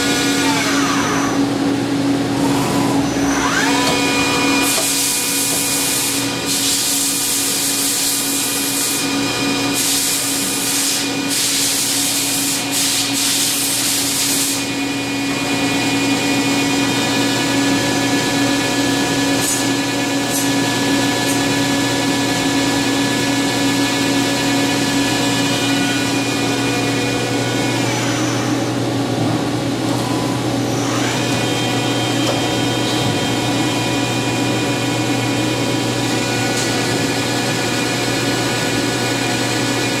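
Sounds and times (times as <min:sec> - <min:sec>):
lathe humming and whining: 0:00.0 - 0:40.0.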